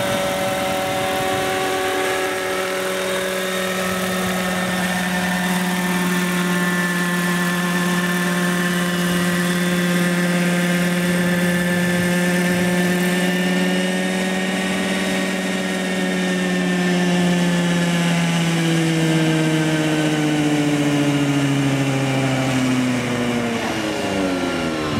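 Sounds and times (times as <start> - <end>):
model helicopter rotor whine: 0.0 - 24.9.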